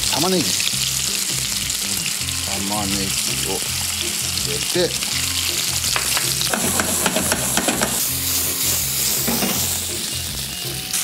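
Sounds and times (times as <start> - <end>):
meat and onion sizzling in a pan: 0.0 - 11.0.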